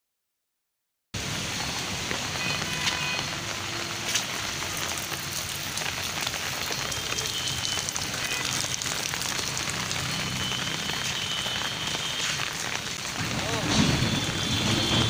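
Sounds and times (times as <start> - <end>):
rain on pavement and water: 1.2 - 15.0.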